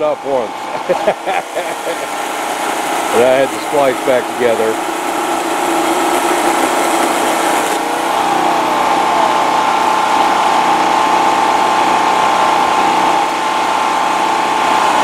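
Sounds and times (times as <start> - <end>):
generator engine running: 0.0 - 15.0
high steady whine: 0.0 - 15.0.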